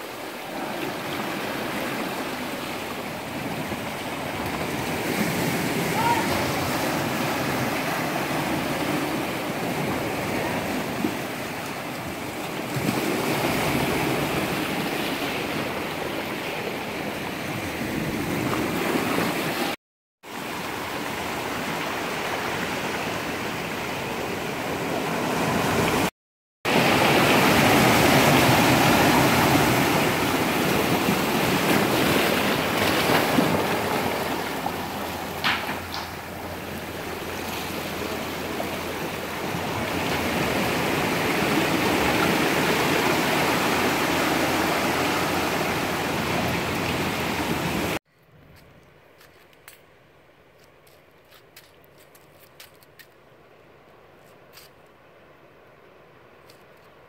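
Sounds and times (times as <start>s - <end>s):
rushing water: 0.0s - 26.1s, 26.7s - 48.0s.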